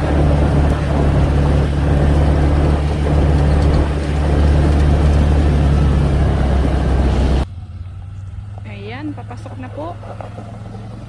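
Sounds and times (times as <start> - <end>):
farm vehicle engine droning: 0.0 - 11.0.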